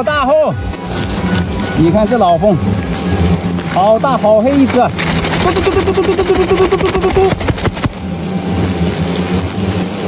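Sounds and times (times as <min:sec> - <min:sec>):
hornets buzzing: 0:00.5 - 0:10.0.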